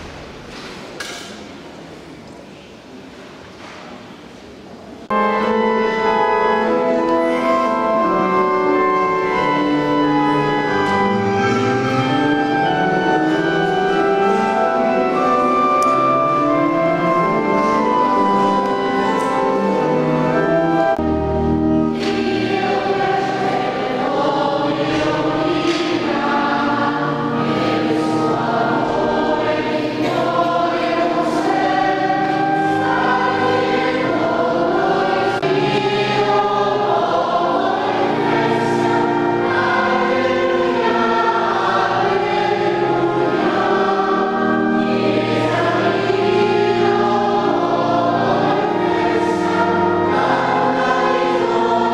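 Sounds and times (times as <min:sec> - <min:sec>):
choir singing a hymn: 0:05.0 - 0:51.9
held instrumental chords: 0:05.1 - 0:51.9.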